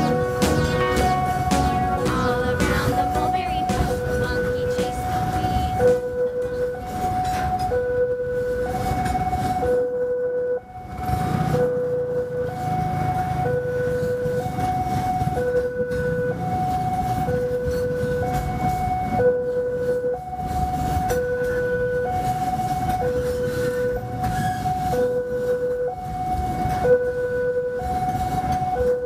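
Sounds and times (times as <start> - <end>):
freight train rolling: 0.0 - 29.0
two-tone crossing alarm: 0.0 - 29.0.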